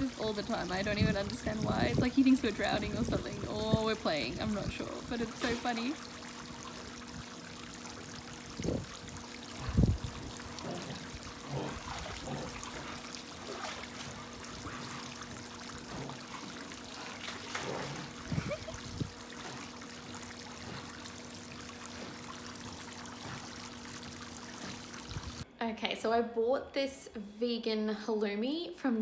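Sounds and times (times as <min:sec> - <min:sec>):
water splashes: 0:00.0 - 0:25.4
water trickling: 0:00.0 - 0:25.4
faint steady hum: 0:00.0 - 0:27.4.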